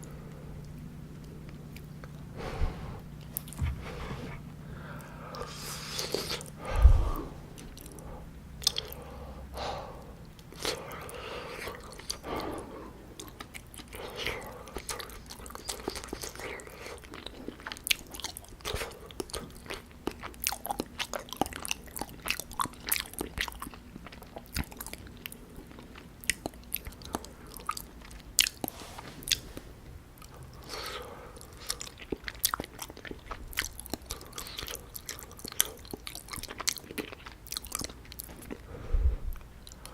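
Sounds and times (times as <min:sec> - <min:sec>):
wet chewing and mouth sounds: 0:03.1 - 0:39.9.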